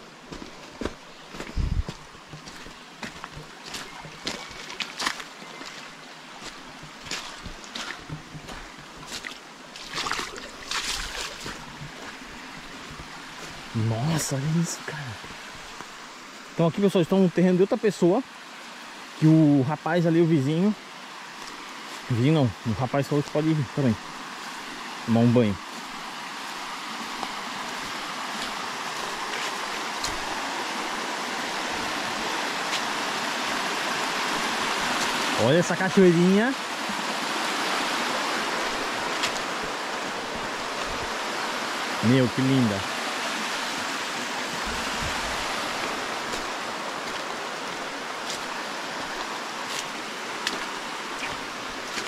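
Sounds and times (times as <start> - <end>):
waterfall rushing over rock: 2.2 - 52.0.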